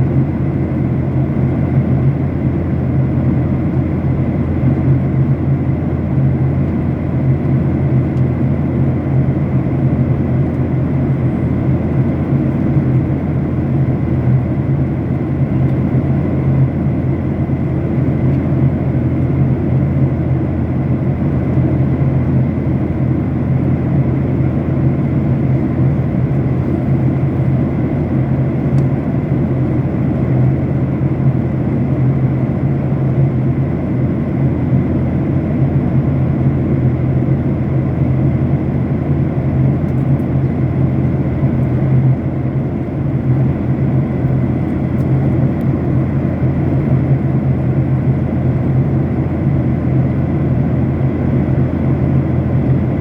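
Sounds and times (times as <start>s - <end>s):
airliner cabin engine drone: 0.0s - 53.0s.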